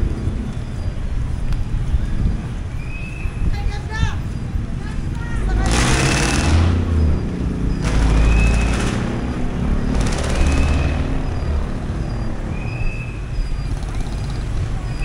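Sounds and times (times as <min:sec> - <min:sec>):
motorbike and car engines rumbling: 0:00.0 - 0:15.0
vehicles passing: 0:00.0 - 0:15.0.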